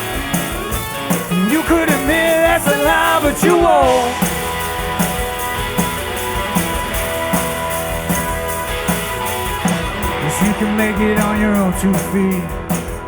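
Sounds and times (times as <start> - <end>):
drum kit steady beat: 0.0 - 13.0
electric guitars holding chords: 0.0 - 13.0.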